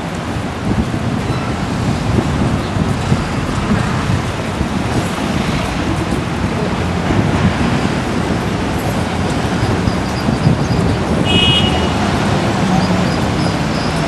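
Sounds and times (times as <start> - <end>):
city street traffic: 0.0 - 14.0
wind buffeting microphone: 0.0 - 14.0.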